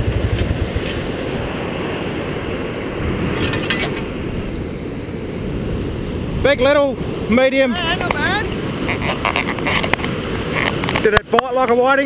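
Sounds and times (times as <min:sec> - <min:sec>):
wind buffeting microphone: 0:00.0 - 0:11.2
surf on a beach: 0:00.0 - 0:12.0.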